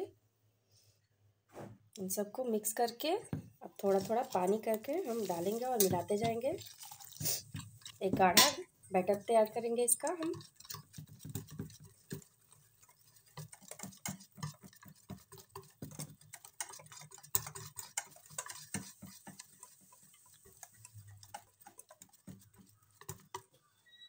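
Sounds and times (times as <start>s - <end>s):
whisk clicking against metal bowl: 3.8s - 23.5s.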